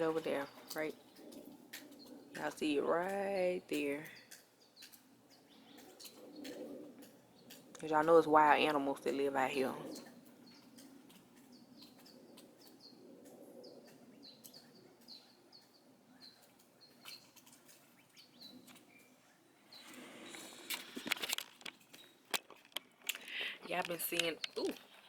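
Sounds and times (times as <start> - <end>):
clicks and rustles: 0.0 - 25.0
small bird chirping: 0.0 - 25.0.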